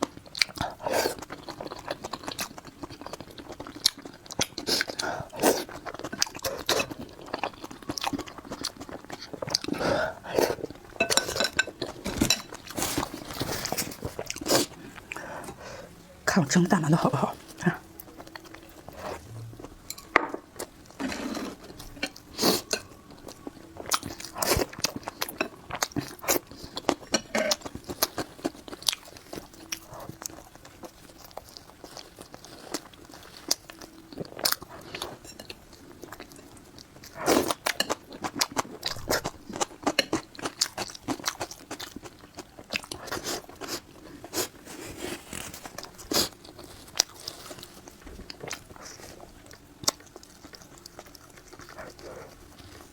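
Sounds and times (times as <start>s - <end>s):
person chewing food: 0.0s - 15.9s, 16.8s - 52.9s.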